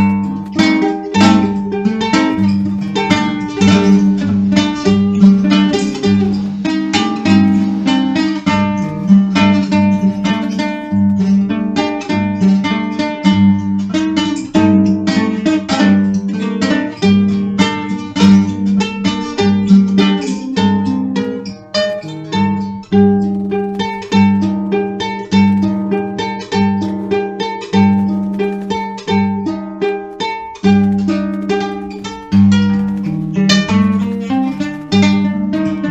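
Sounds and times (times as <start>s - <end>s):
picked acoustic guitar: 0.0s - 35.9s.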